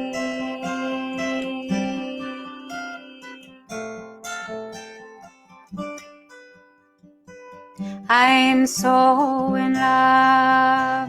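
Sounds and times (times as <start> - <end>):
acoustic guitar plucked chords: 0.0 - 11.0.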